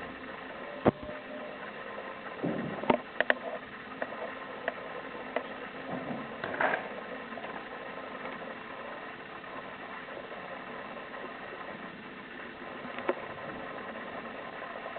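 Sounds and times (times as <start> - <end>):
machinery humming: 0.0 - 14.9.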